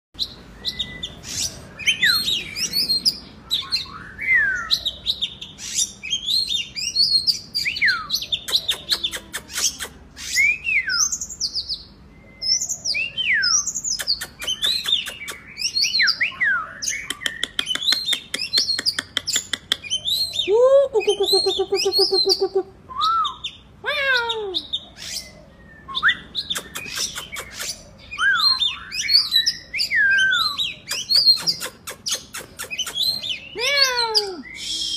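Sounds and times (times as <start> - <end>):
bird singing varied song: 0.2 - 34.9.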